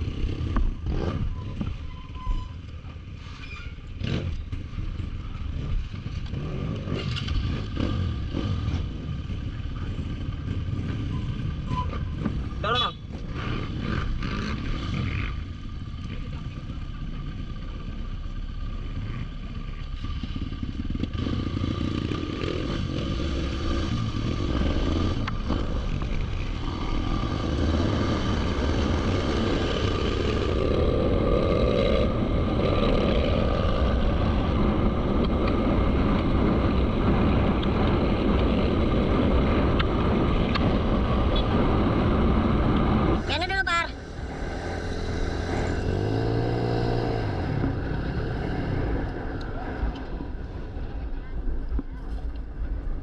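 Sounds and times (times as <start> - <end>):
motorcycle running: 0.0 - 53.0.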